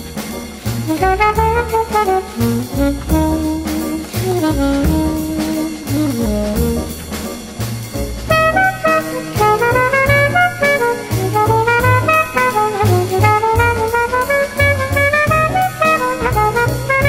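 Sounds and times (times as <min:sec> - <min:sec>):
jazz music with brass melody: 0:00.0 - 0:17.0.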